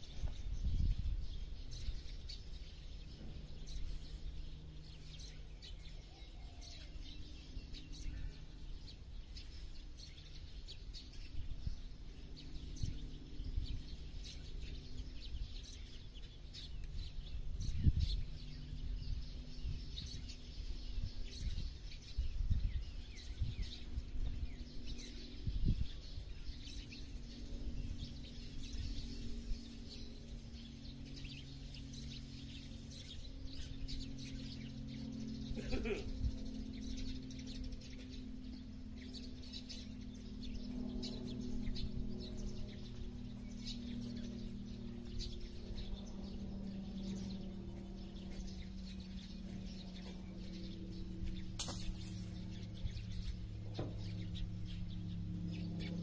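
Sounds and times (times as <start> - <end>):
low outdoor rumble: 0.0 - 56.0
small birds chirping: 0.0 - 56.0.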